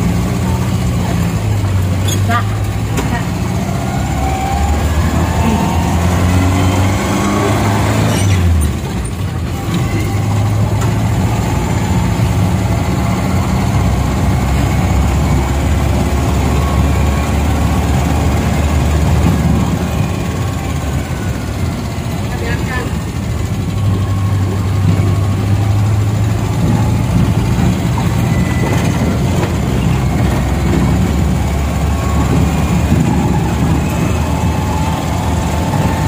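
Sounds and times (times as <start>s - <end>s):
minibus engine running: 0.0s - 36.0s
road noise: 0.0s - 36.0s.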